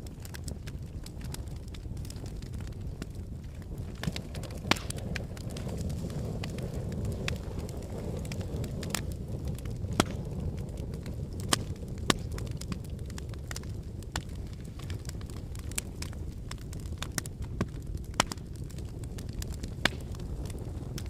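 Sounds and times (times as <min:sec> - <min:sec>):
burning wood crackling: 0:00.0 - 0:21.0
flames rumbling: 0:00.0 - 0:21.0
sharp pops from burning wood: 0:00.0 - 0:21.0.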